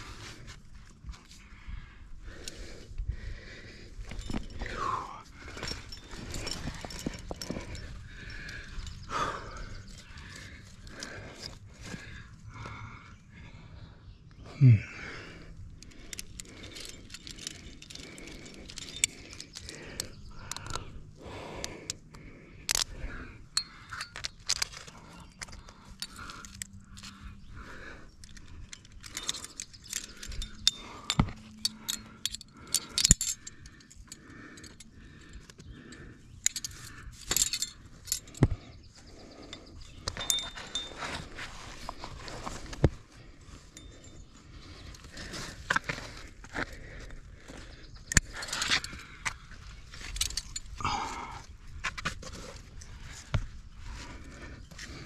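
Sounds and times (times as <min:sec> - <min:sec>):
metal climbing gear clinking: 0:00.0 - 0:55.0.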